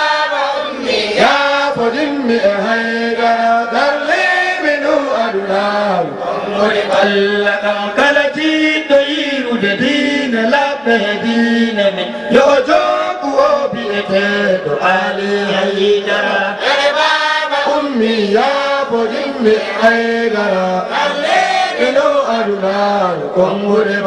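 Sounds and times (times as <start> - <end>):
men chanting into a microphone: 0.0 - 24.0.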